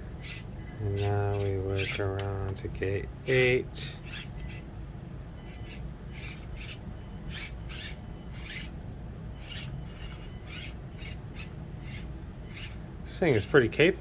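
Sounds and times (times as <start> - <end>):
low steady hum: 0.0 - 14.0
toy car scraping and crunching on rocks: 0.2 - 2.4, 3.3 - 4.6, 5.6 - 13.6.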